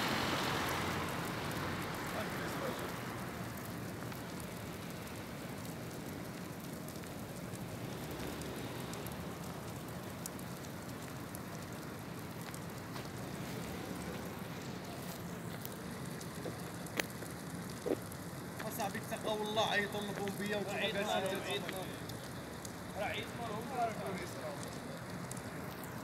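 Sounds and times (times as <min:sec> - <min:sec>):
crackling hiss of sparks: 0:00.0 - 0:26.0
small pops: 0:00.5 - 0:19.2, 0:19.8 - 0:23.4, 0:24.0 - 0:26.0.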